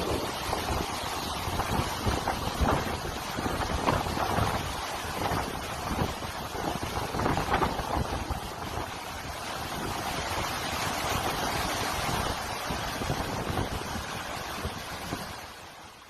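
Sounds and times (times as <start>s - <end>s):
wind buffeting microphone: 0.0s - 15.4s
rush of wind and water: 0.0s - 16.0s.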